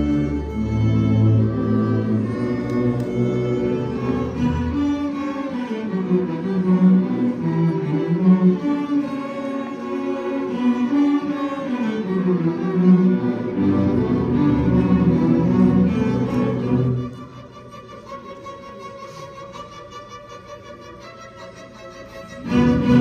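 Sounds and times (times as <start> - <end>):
cello and violin music: 0.0 - 23.0.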